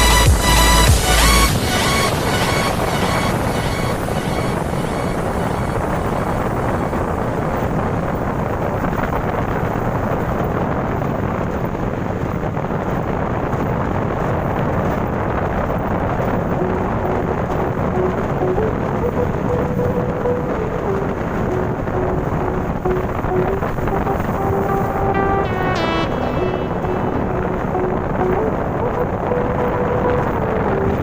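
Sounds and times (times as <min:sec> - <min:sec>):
loud steady rumbling: 0:00.0 - 0:31.0.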